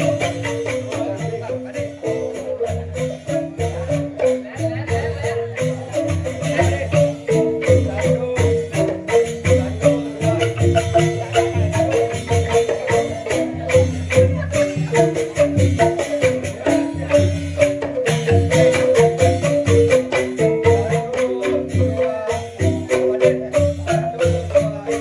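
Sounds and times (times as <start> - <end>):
bamboo xylophone gamelan music: 0.0 - 25.0.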